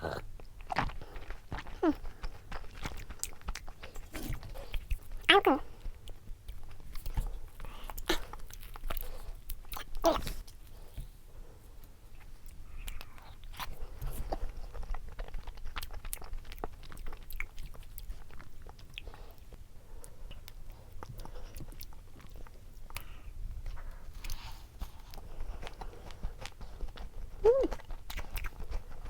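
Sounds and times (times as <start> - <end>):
eating frozen ice cream: 0.0 - 10.9, 11.8 - 29.0.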